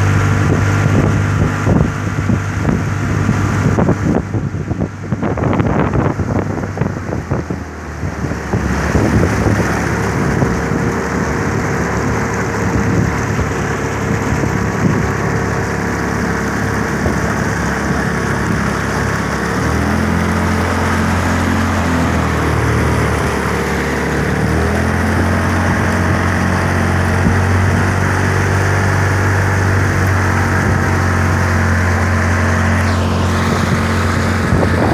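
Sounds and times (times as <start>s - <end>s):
outboard motor running: 0.0s - 34.9s
water rushing from boat wake: 0.0s - 34.9s.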